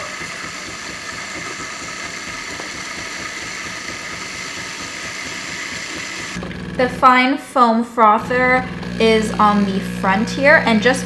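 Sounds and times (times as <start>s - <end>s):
espresso machine frothing milk: 0.0s - 6.9s, 8.2s - 11.0s.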